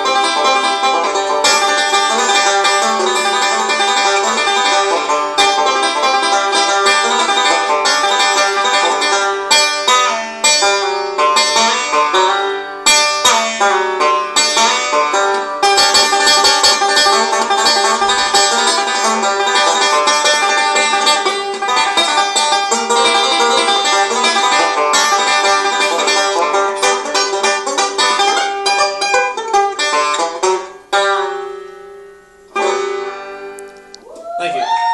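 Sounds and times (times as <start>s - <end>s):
banjo picked rapidly: 0.0s - 33.6s
banjo chords ringing out: 0.0s - 34.0s.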